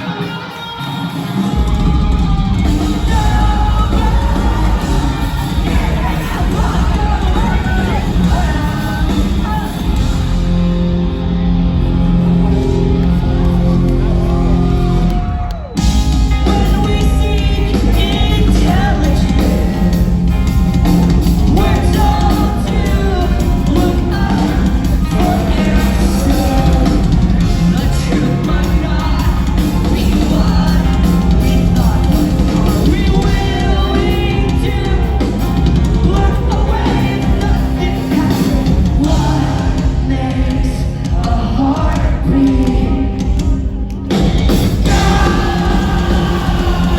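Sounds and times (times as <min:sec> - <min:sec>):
person singing: 0:00.0 - 0:10.5, 0:16.0 - 0:43.4, 0:44.1 - 0:46.9
live rock band playing loudly: 0:00.0 - 0:46.9.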